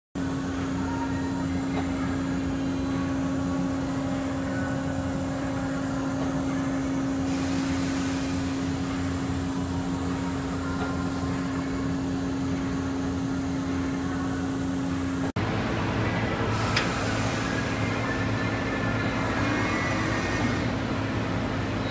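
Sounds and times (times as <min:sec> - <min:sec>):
rumbling machine noise: 0:00.2 - 0:21.9.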